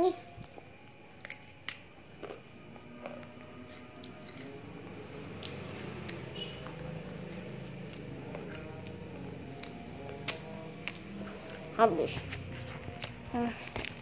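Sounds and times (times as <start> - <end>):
low steady hum: 0.0 - 14.0
cookie crunching: 0.4 - 14.0.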